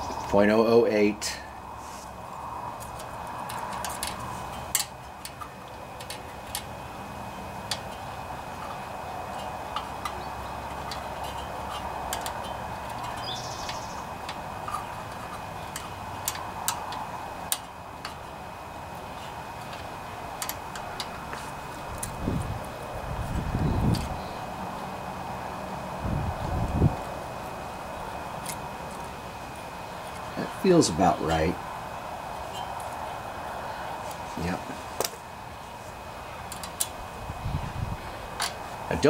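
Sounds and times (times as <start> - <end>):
low background noise: 0.0 - 39.0.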